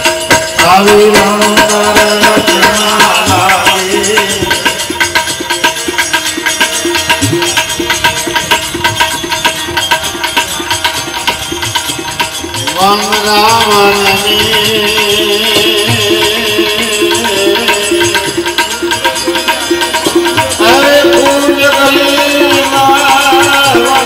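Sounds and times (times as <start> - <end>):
held instrumental notes: 0.0 - 24.0
person singing devotional music: 0.0 - 24.0
rattling hand percussion: 0.0 - 24.0.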